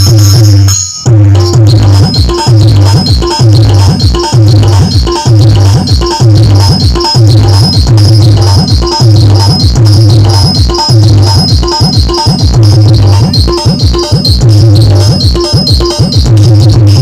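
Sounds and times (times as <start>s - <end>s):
electronic keyboard music: 0.0s - 17.0s.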